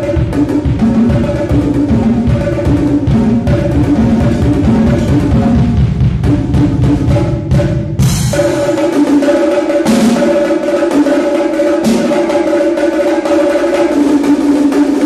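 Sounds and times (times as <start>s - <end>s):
heavy bass drum strokes: 0.0s - 12.4s
drum sticks on high toms: 0.0s - 15.0s.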